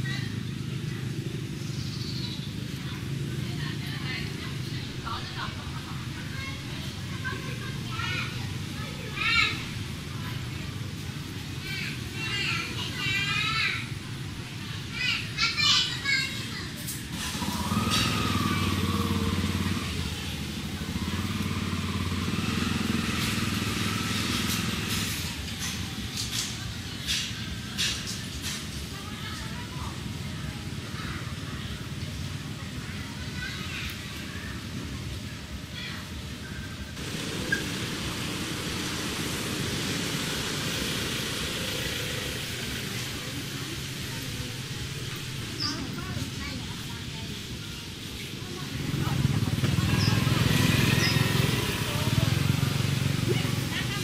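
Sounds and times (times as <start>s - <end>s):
vehicle engine running: 0.0s - 13.2s, 17.1s - 27.2s, 28.9s - 54.0s
rushing outdoor hiss: 0.0s - 54.0s.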